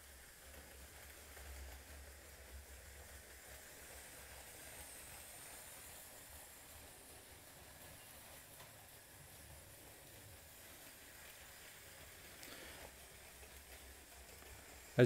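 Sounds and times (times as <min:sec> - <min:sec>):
toy train motor hum: 0:00.0 - 0:15.0
wheels hissing on plastic track: 0:00.0 - 0:15.0.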